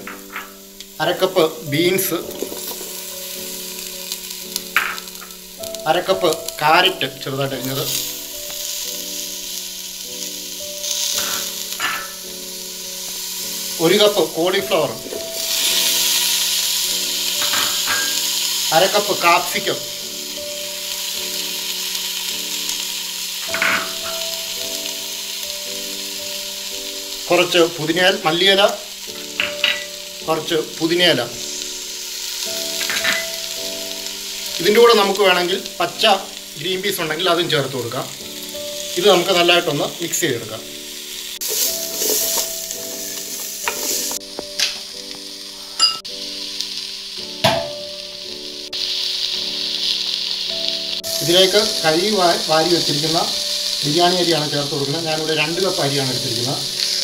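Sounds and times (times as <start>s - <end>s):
soft background music: 0.0s - 57.0s
vegetables sizzling in a pan: 0.0s - 57.0s.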